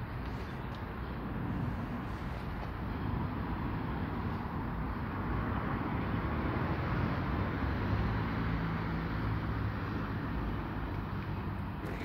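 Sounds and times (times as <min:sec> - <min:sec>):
low engine hum: 0:00.0 - 0:12.0
road traffic noise: 0:00.0 - 0:12.0.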